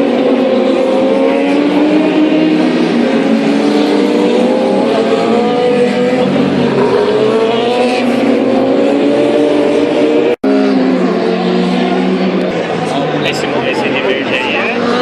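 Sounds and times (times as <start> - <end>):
superbike engine at high revs: 0.0 - 15.0.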